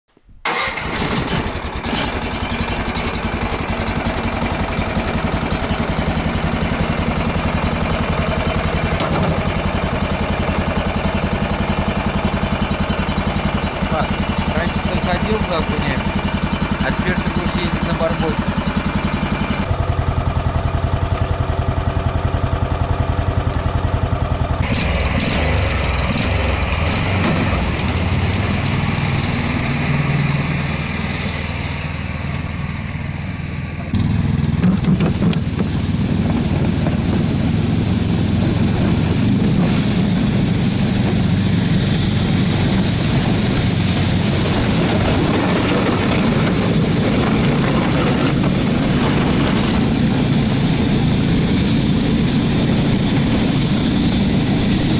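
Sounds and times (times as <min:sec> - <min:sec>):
small petrol engine running: 0:00.4 - 0:54.9.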